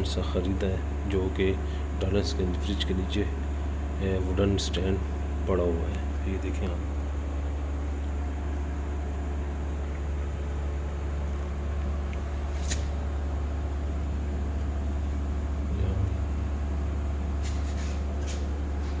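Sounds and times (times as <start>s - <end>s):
electrical appliance humming: 0.0s - 19.0s.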